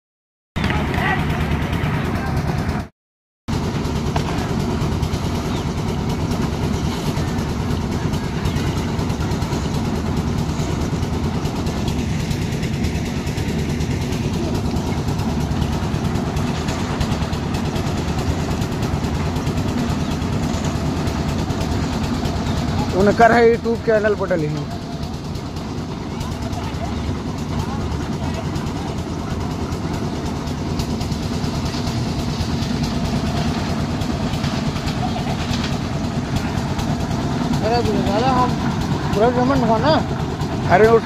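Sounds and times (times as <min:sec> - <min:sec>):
concrete mixer engine running: 0:00.6 - 0:02.9, 0:03.5 - 0:41.0.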